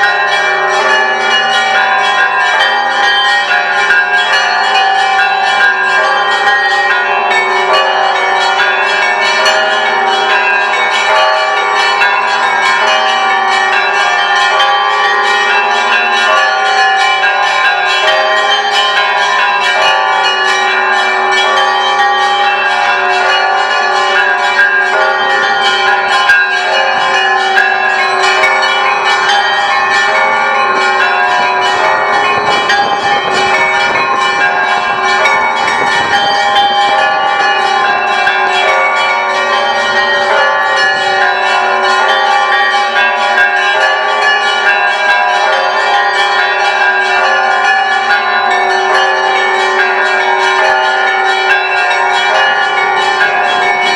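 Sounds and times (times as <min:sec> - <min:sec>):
deep church bells ringing: 0:00.0 - 0:53.9
small bells chiming quickly: 0:00.0 - 0:53.9.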